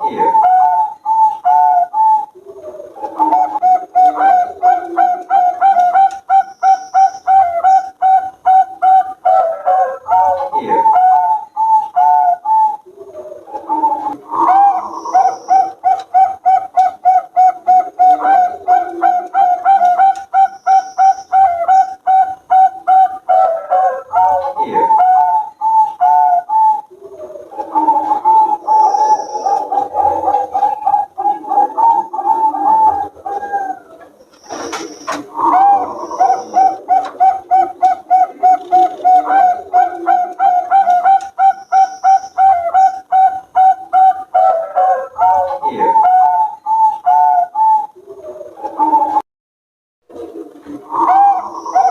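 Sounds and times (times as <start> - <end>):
dove cooing: 0.0 - 49.2, 50.1 - 51.9.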